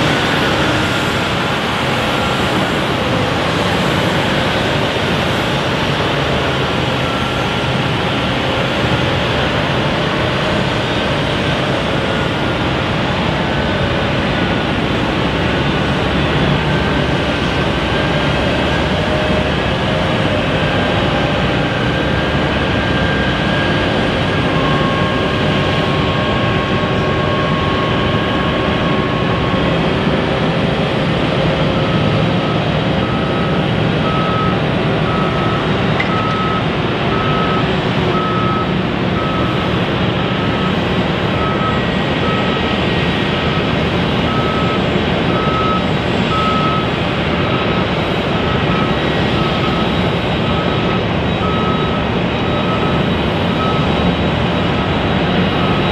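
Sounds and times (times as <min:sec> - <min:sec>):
jet engine noise: 0:00.0 - 0:55.9
reversing beeper: 0:00.0 - 0:55.9.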